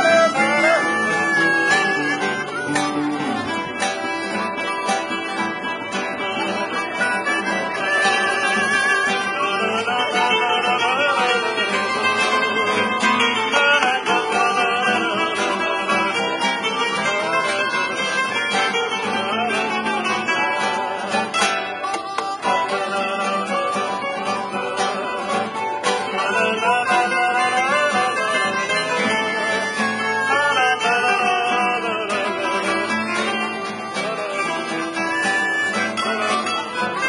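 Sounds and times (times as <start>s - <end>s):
acoustic guitars playing: 0.0s - 37.0s
harmonica melody: 0.0s - 37.0s.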